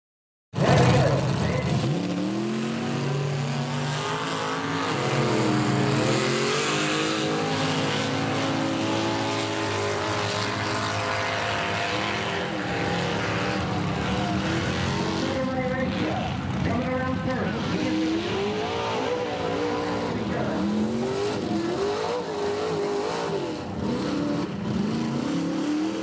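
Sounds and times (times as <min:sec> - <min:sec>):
truck engine running hard: 0:00.6 - 0:26.0.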